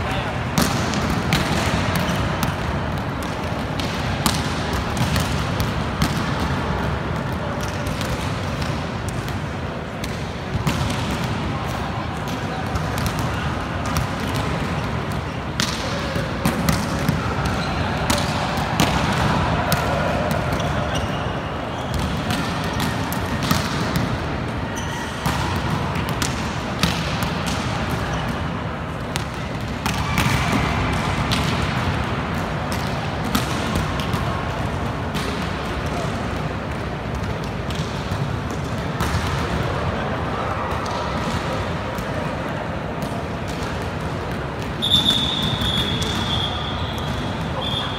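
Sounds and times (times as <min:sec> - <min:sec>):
players' indistinct chatter: 0:00.0 - 0:47.9
volleyballs hit and bouncing: 0:00.0 - 0:47.9.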